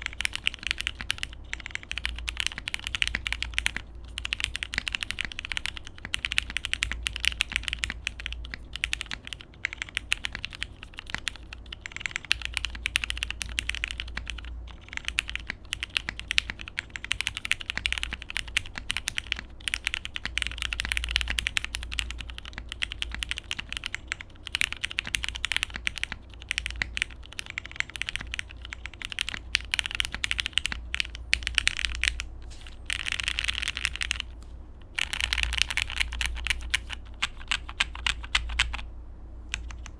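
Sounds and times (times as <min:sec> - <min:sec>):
mechanical keyboard typing: 0:00.0 - 0:38.9, 0:39.5 - 0:39.9.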